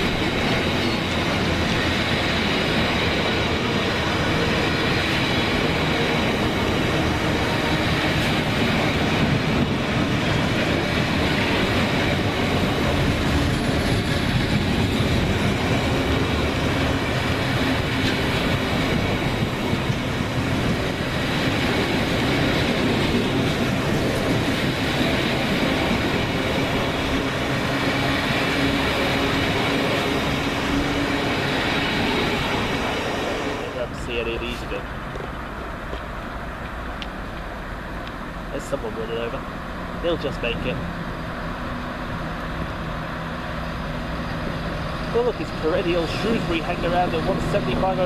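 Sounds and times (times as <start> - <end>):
diesel engine hum: 0.0 - 48.0
train wheels clickety-clack on rails: 0.0 - 48.0.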